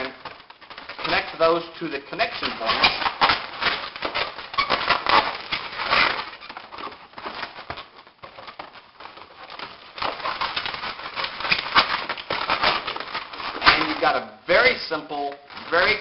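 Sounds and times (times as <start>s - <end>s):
balloons rubbing and squeaking: 0.0s - 16.0s.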